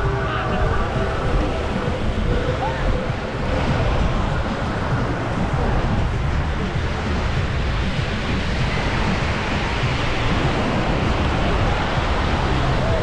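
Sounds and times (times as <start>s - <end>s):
surf washing on sandy beach: 0.0s - 13.0s
wind buffeting microphone: 0.0s - 13.0s.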